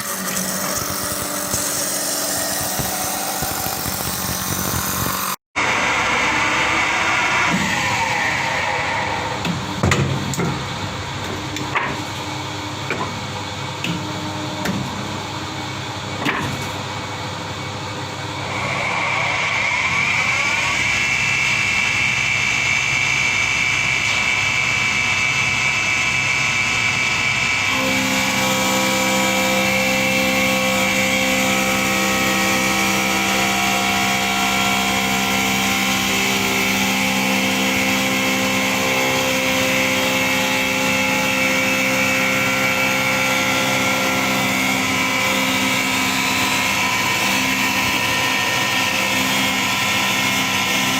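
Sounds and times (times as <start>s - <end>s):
lathe motor whine: 0.0s - 9.8s, 17.0s - 50.9s.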